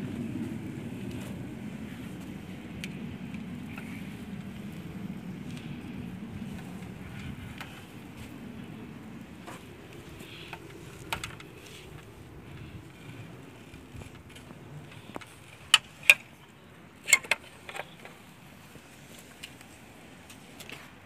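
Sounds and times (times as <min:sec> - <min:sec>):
faint steady background noise: 0:00.0 - 0:21.0.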